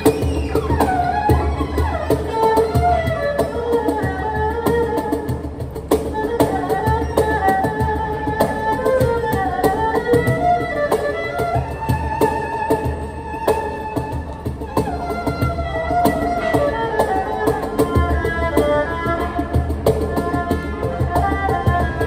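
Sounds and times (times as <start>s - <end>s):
cajon hand slaps and thumps: 0.0s - 22.0s
erhu bowed melody: 0.0s - 22.0s.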